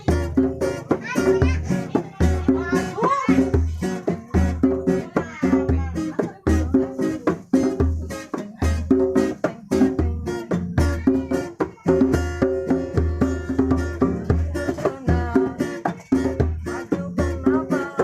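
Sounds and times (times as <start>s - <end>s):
fast plucked string melody: 0.0s - 18.0s.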